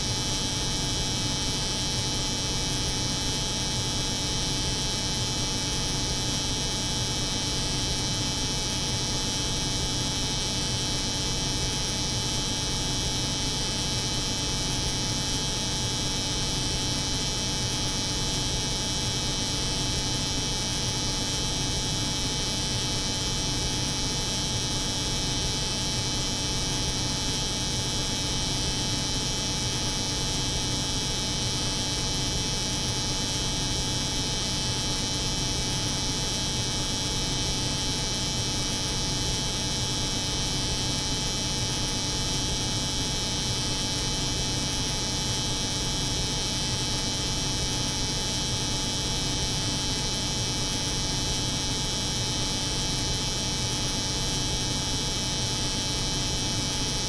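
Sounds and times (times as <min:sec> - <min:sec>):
refrigeration unit humming: 0:00.0 - 0:57.0.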